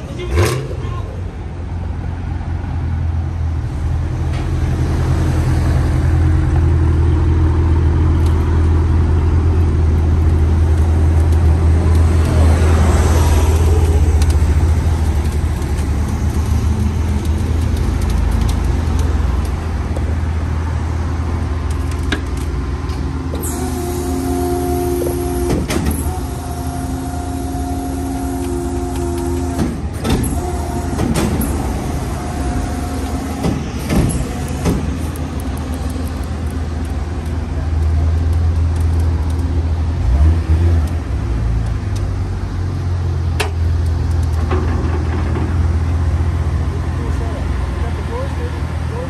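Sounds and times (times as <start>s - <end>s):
deep engine rumble: 0.0s - 49.0s.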